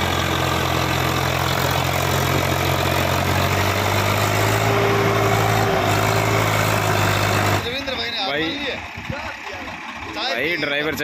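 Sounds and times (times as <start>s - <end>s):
tractor diesel engine labouring: 0.0s - 11.0s.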